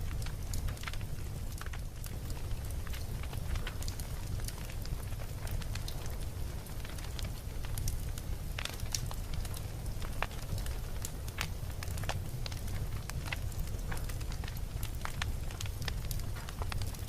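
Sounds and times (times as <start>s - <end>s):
campfire crackling and popping: 0.0s - 17.0s
low fire rumble: 0.0s - 17.0s.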